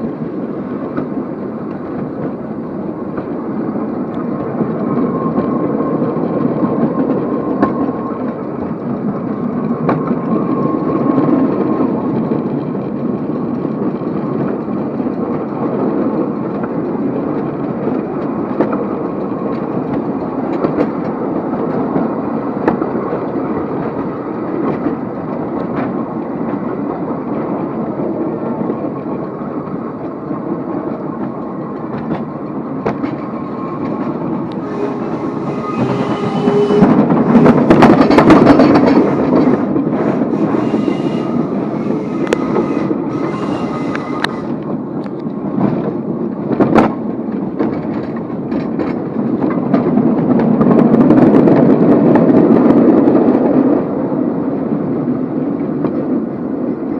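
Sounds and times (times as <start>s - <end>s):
train rumbling along track: 0.0s - 56.9s
sharp track clicks: 0.6s - 53.9s.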